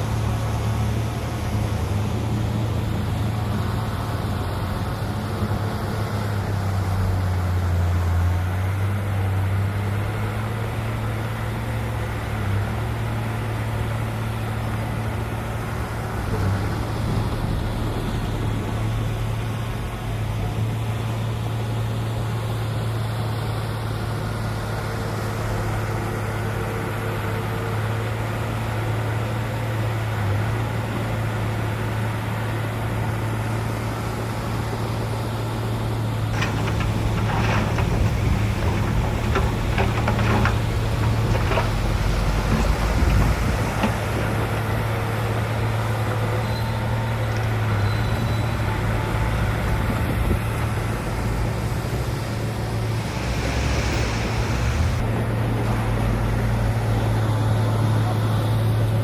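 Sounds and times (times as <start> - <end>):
heavy machinery diesel engine: 0.0 - 33.4, 34.9 - 59.0.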